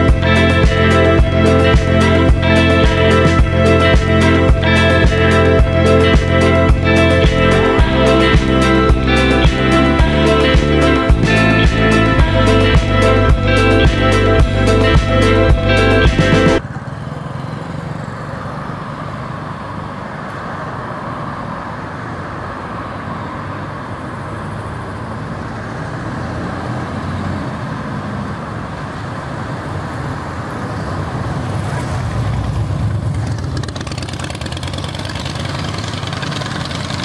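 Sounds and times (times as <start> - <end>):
road traffic hum: 0.0 - 37.0
vehicle passing rumble: 0.0 - 37.0.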